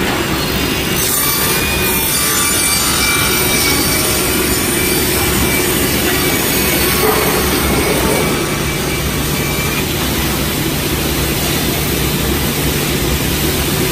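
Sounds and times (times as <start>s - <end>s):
circular saw running: 0.0s - 13.9s.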